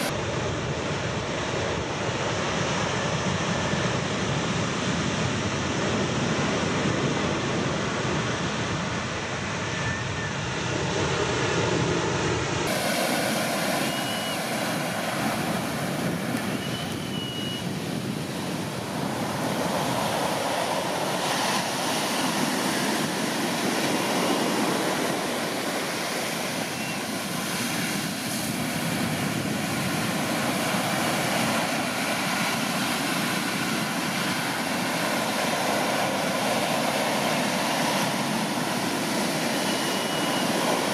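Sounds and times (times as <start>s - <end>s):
waves breaking on beach: 0.0s - 9.0s, 12.6s - 40.9s.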